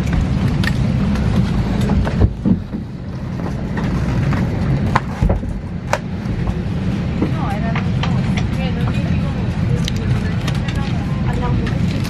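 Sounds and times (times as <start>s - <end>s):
aircraft air system hum: 0.0s - 12.0s.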